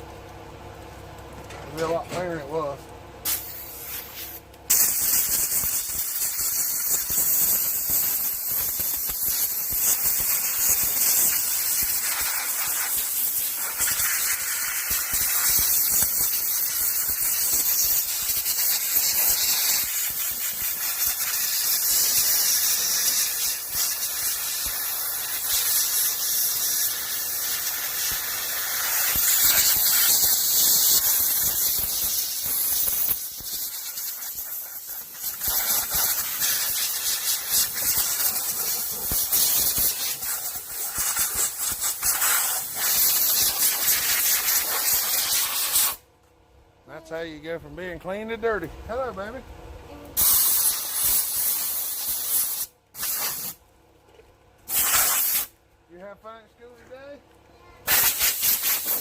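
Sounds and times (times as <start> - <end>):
compressed air hissing from nozzle: 3.2 - 46.0, 50.2 - 53.6, 54.6 - 55.5, 57.8 - 59.0.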